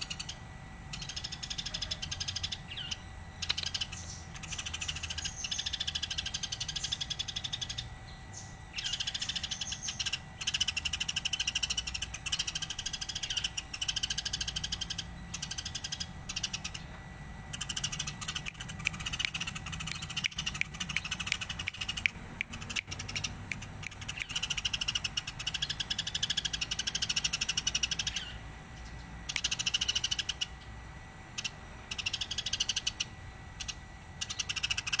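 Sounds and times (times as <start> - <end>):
sparrow chirping: 0.0 - 30.6, 31.4 - 35.0.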